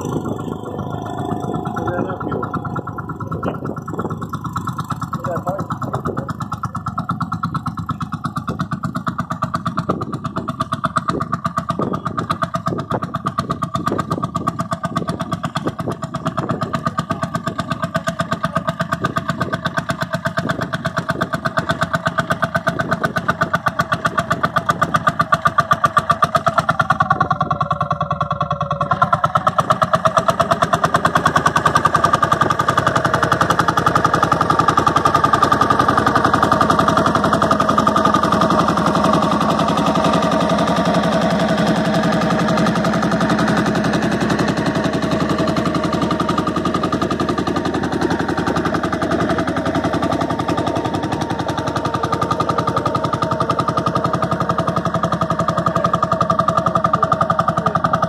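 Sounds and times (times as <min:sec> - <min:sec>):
tractor engine thudding: 0:00.0 - 0:58.0.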